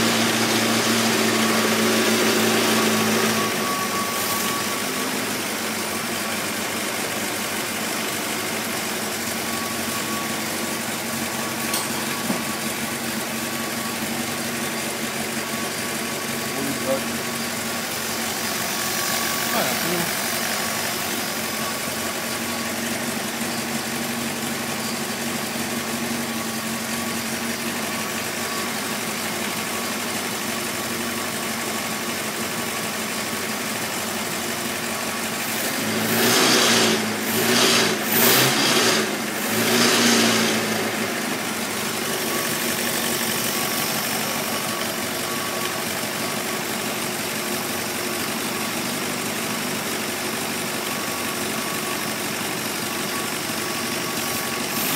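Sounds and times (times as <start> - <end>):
engine idling and revving: 0.0 - 54.9.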